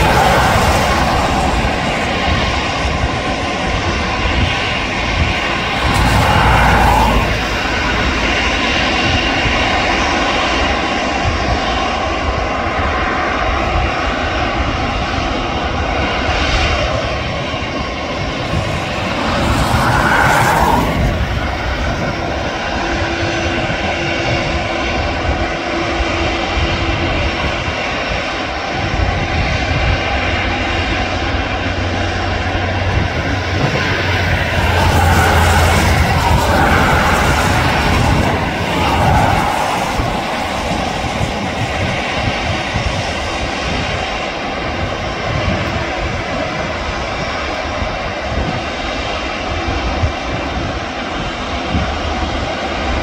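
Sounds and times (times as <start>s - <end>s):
airliner engines running: 0.0s - 53.0s.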